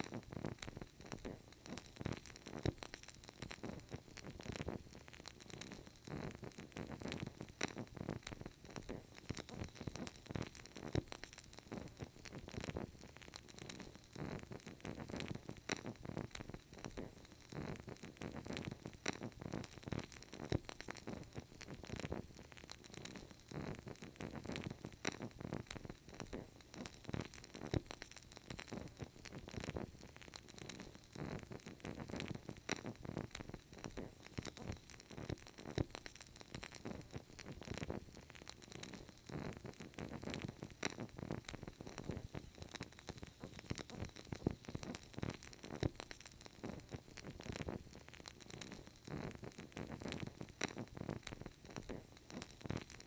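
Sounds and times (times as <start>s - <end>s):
candle crackling: 0.0s - 53.0s.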